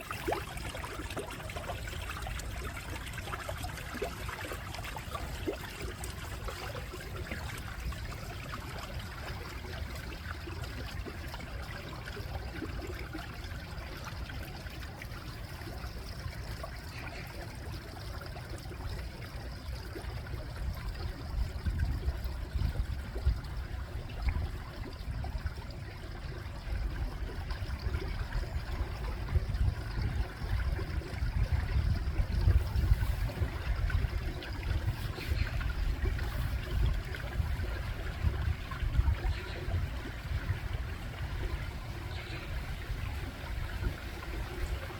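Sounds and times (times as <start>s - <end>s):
stream trickling over stones: 0.0s - 44.9s.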